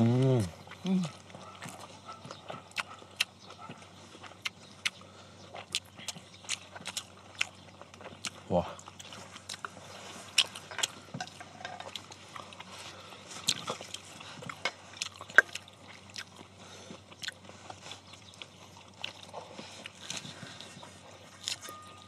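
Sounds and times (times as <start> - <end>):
people chewing lettuce: 0.0 - 22.0.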